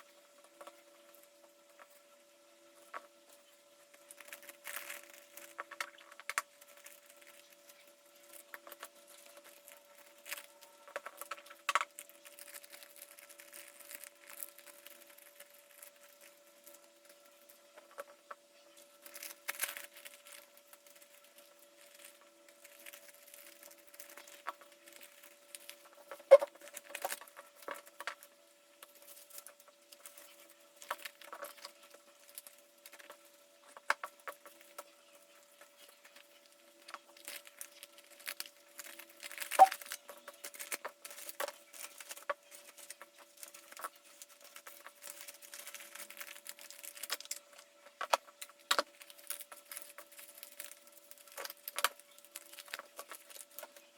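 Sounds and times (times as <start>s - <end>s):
faint steady hum: 0.0s - 53.9s
packaging crinkling: 2.8s - 53.9s.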